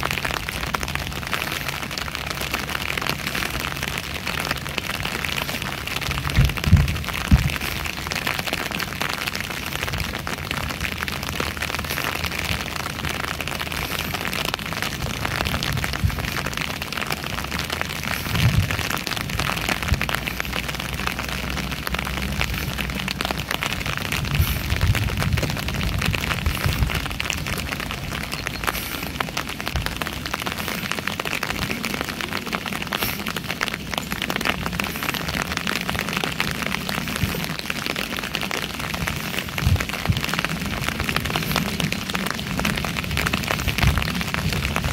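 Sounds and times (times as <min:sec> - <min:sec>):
low rumbles: 0:00.0 - 0:44.9
steady rain falling: 0:00.0 - 0:44.9.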